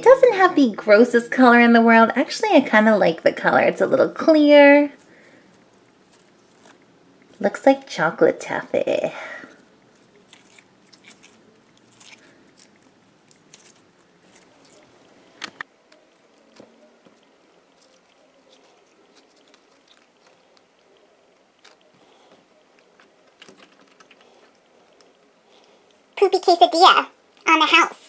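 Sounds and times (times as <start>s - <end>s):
slime squelching: 3.4s - 28.0s.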